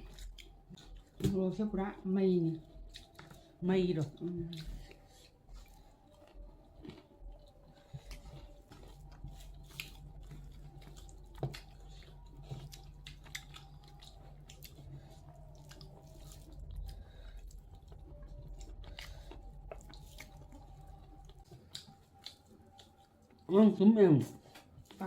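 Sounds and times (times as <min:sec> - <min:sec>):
low steady hum: 0:00.0 - 0:25.0
person chewing food: 0:00.0 - 0:25.0.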